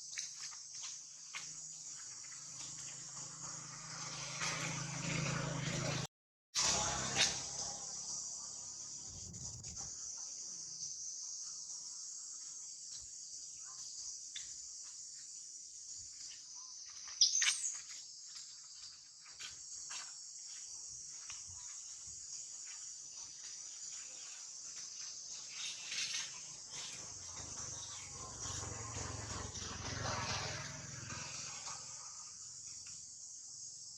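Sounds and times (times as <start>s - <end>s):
insect chorus: 0.0s - 6.0s, 6.6s - 33.9s.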